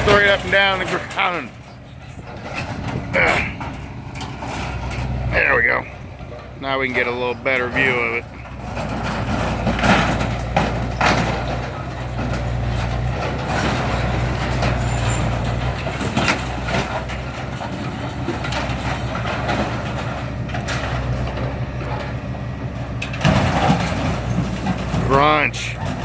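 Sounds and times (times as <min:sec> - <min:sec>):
heavy machine engine running: 0:00.0 - 0:26.0
metal clanking and crunching: 0:00.0 - 0:26.0.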